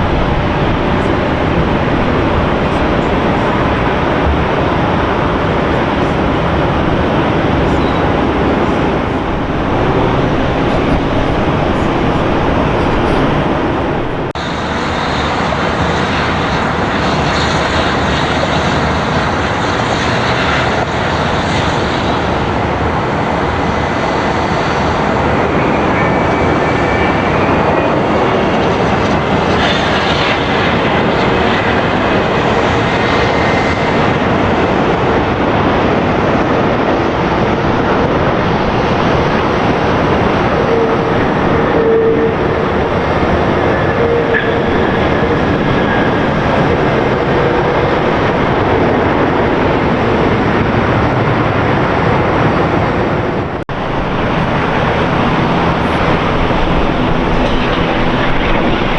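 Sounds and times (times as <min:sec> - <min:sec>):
jet engines running: 0:00.0 - 0:58.9.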